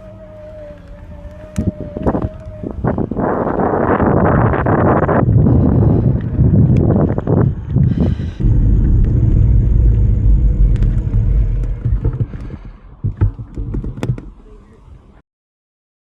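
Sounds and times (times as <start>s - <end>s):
wind buffeting microphone: 0.0s - 15.1s
e-bike road noise: 0.0s - 15.2s.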